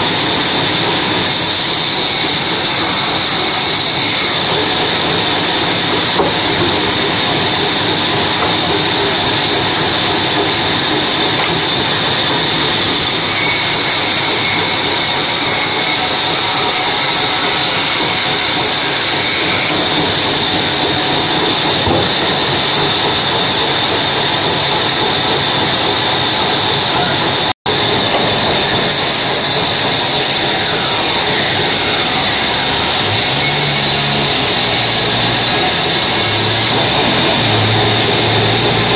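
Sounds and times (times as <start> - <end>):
band saw blade cutting log: 0.0 - 38.9
machine hum: 0.0 - 38.9.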